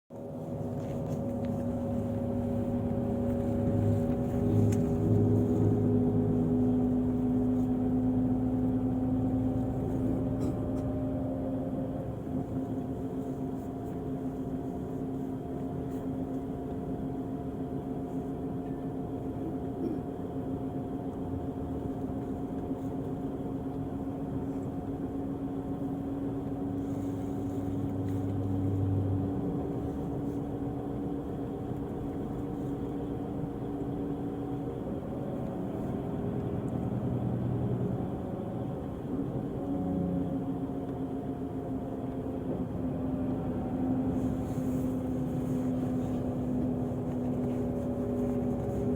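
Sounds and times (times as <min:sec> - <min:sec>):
coach diesel engine running: 0:00.1 - 0:48.9.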